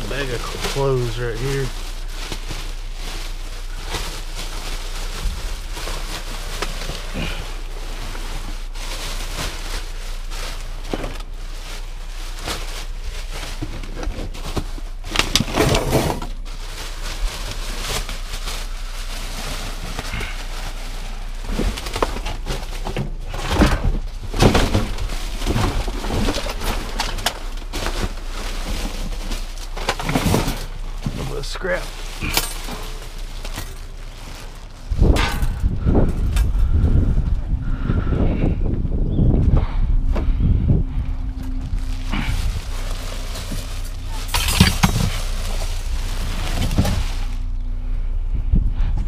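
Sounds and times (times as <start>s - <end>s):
plastic bags rustling and crinkling: 0.0s - 37.1s, 41.3s - 47.7s.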